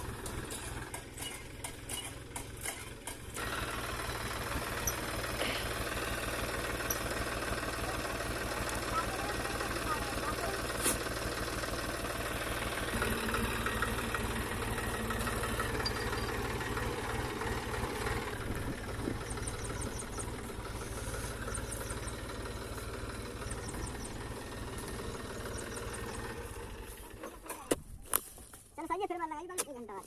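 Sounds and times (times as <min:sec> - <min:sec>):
water pump diesel engine running: 0:00.0 - 0:27.3.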